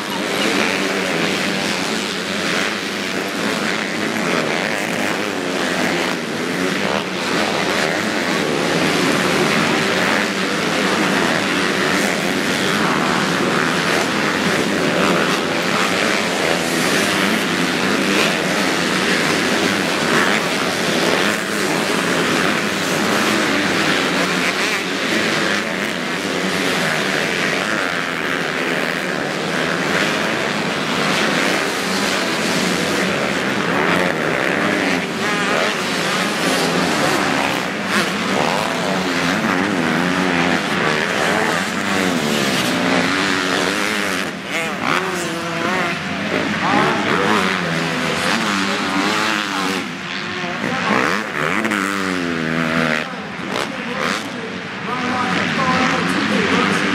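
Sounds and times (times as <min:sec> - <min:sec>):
motorbike engines revving: 0:00.0 - 0:56.9.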